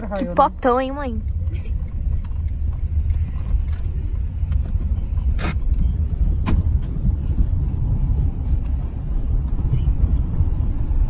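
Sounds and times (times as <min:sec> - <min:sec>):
car rumble inside cabin: 0:00.0 - 0:11.0.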